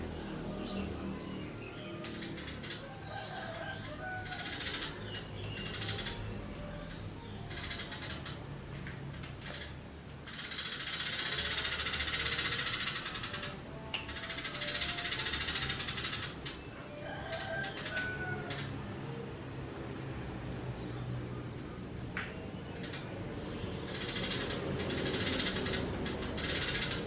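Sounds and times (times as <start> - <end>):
sparrow chattering trills: 0.6 - 8.5, 9.4 - 18.9, 22.7 - 27.0.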